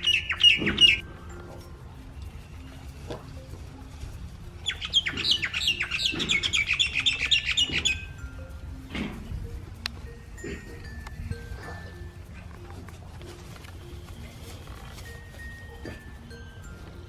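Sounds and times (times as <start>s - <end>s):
bird chirping: 0.0s - 17.0s
soft background music: 0.0s - 17.0s.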